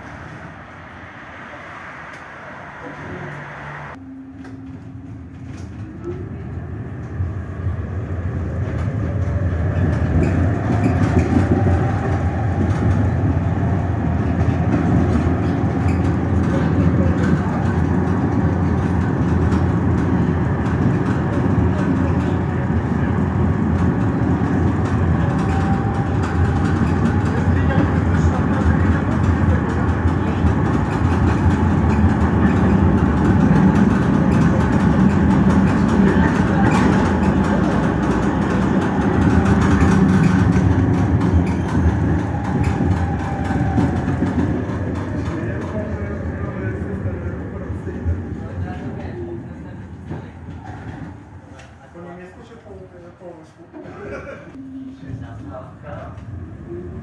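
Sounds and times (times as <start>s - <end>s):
tram motor whine: 0.0s - 48.6s
wheels rumbling on rails: 0.0s - 52.7s.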